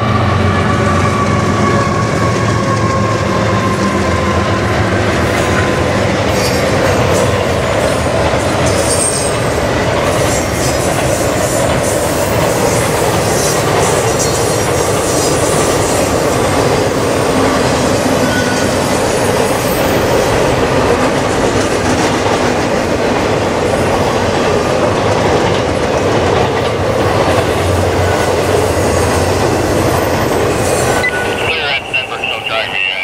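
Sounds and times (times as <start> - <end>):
freight train wheels on rail: 0.0 - 33.0.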